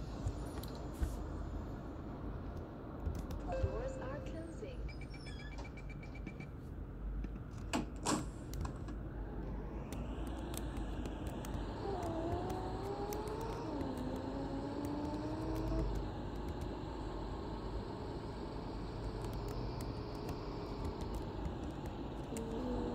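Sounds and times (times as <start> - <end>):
bus engine rumble with whine: 0.0 - 22.9.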